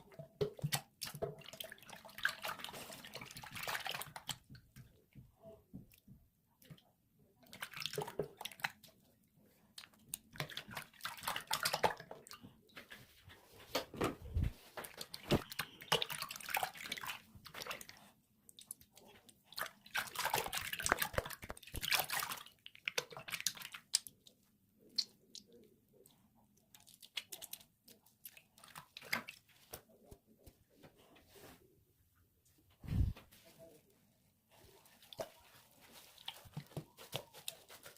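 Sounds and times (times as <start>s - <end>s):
liquid soap squishing with water: 0.0s - 31.6s, 32.9s - 37.9s.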